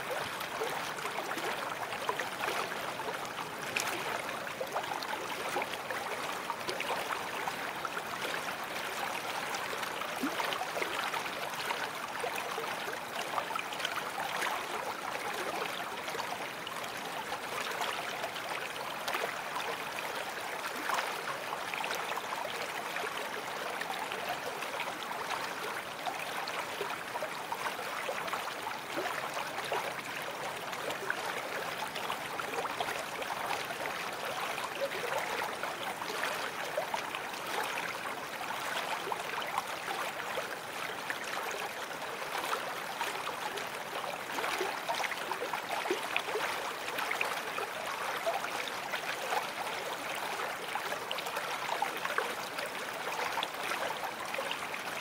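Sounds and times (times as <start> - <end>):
running water in a brook: 0.0 - 55.0.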